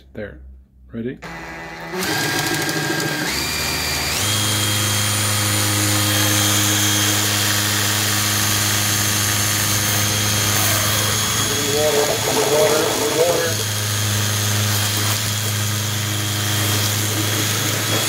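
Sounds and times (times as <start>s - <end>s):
drill motor whine: 1.2s - 18.0s.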